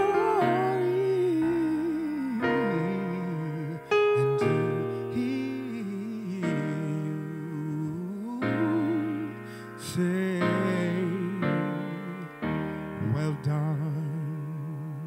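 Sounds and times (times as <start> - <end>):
man singing slowly: 0.0 - 15.0
piano accompaniment: 0.0 - 15.0.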